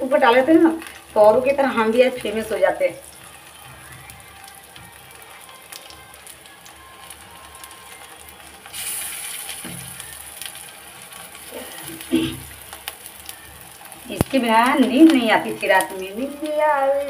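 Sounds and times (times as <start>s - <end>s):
deep-frying in oil sizzling: 0.0s - 17.0s.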